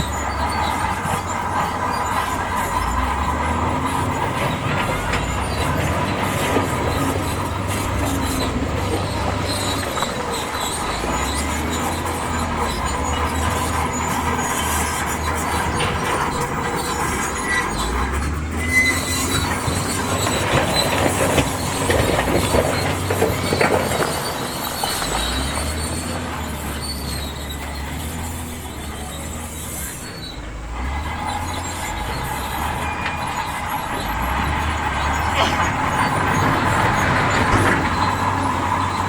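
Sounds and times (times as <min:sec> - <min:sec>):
bulldozer diesel engine: 0:00.0 - 0:39.0
steel tracks squealing and clanking: 0:00.0 - 0:39.0
thin high squeal: 0:00.0 - 0:39.0.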